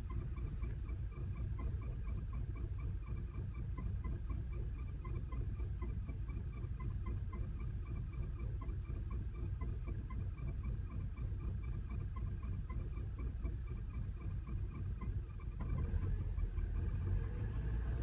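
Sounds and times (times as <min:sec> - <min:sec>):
car engine idling roughly: 0:00.0 - 0:18.0
regular engine ticking: 0:00.0 - 0:18.0.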